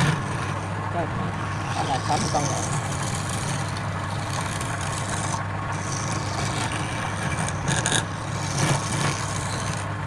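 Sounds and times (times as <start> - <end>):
lathe motor hum: 0.0 - 10.0
tool scraping spinning wood: 0.0 - 10.0.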